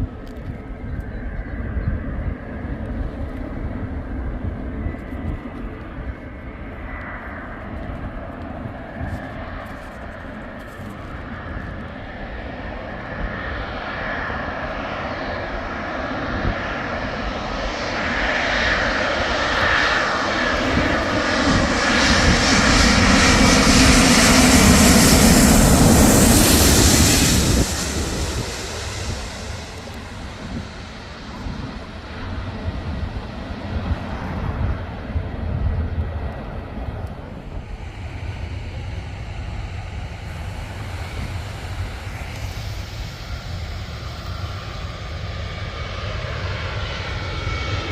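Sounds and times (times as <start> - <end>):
airliner engine whine overhead: 0.0 - 47.9.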